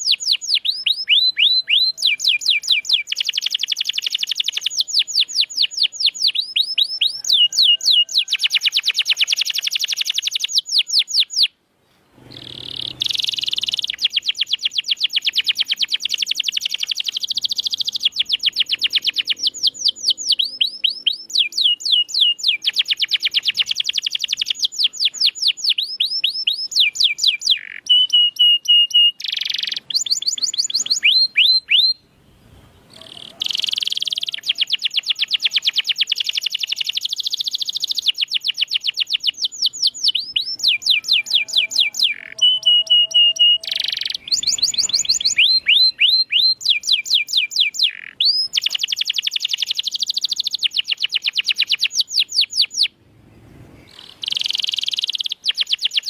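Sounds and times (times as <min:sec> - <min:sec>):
canary singing trills: 0:00.0 - 0:11.6, 0:12.2 - 0:32.1, 0:32.8 - 0:53.0, 0:53.8 - 0:56.0.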